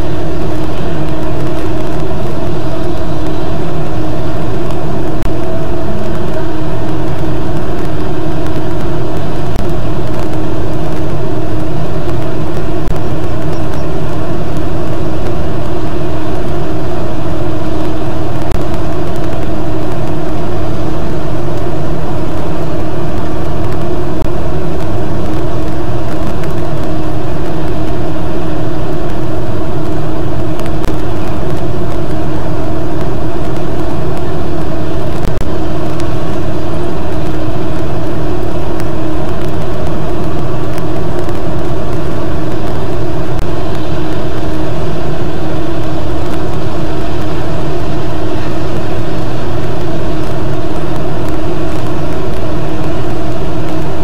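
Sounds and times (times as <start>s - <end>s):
steady rumbling hum: 0.0s - 54.0s.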